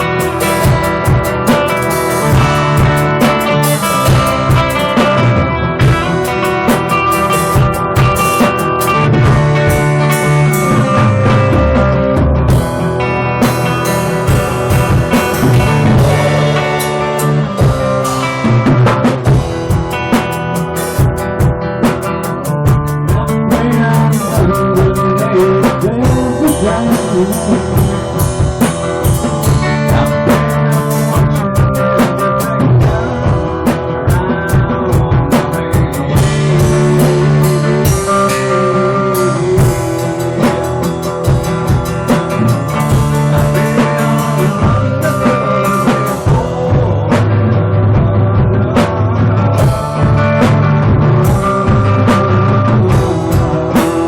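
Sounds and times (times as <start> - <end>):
drum kit beat: 0.0 - 54.0
electric guitar: 0.0 - 54.0.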